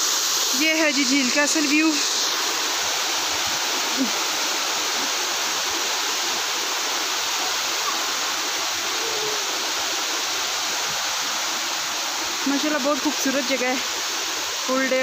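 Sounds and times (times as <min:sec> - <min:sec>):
water rushing over a stone weir: 0:00.0 - 0:15.0.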